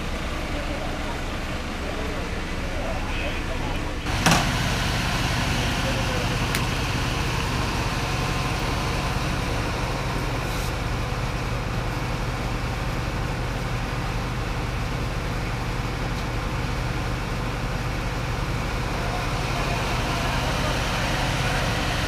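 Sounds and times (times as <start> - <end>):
fire engine engine running: 0.0 - 22.0.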